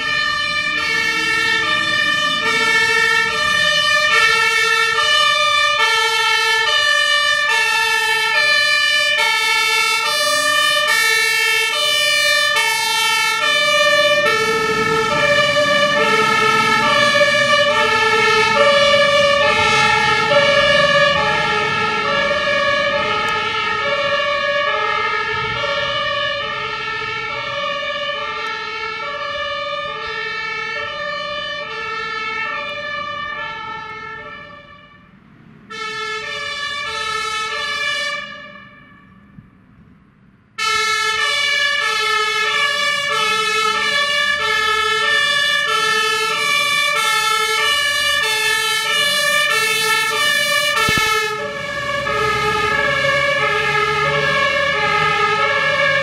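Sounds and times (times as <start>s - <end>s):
fire engine two-tone siren: 0.0s - 39.8s, 40.5s - 56.0s
diesel engine noise: 0.0s - 56.0s.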